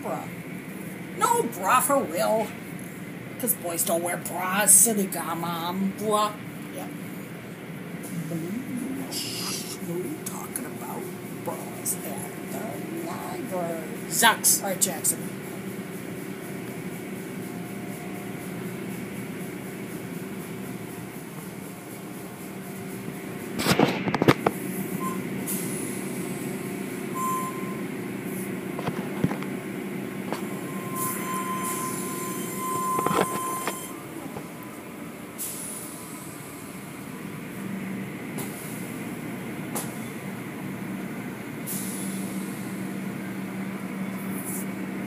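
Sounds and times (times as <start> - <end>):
car wash machine hum: 0.0 - 45.0.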